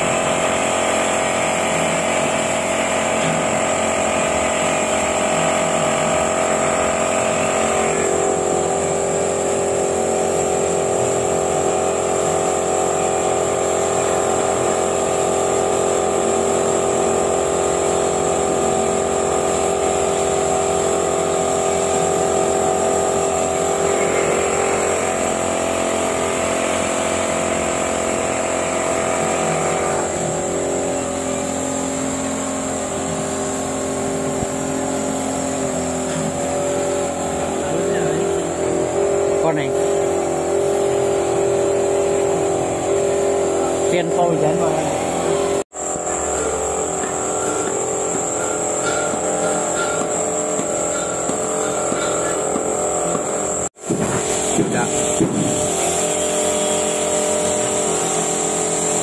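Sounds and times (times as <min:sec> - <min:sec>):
constant high whine: 0:00.0 - 0:59.0
motor droning hum: 0:00.0 - 0:59.0.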